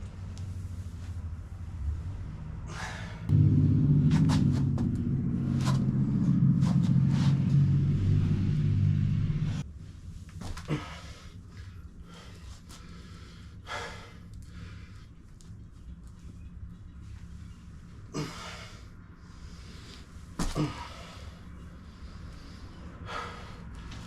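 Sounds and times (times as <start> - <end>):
loud low mechanical hum: 0.0 - 23.8
faint low hum: 0.0 - 24.0.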